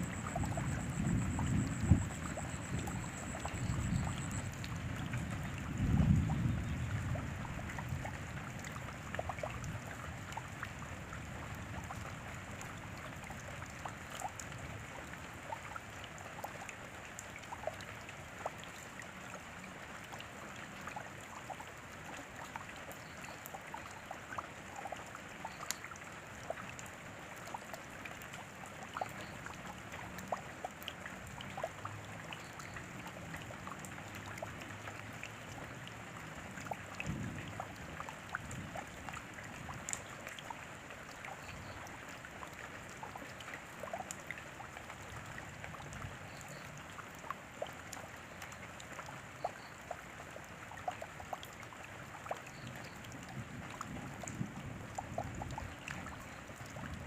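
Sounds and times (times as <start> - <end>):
raindrops ticking: 0.0 - 57.0
steady rain: 0.0 - 57.0.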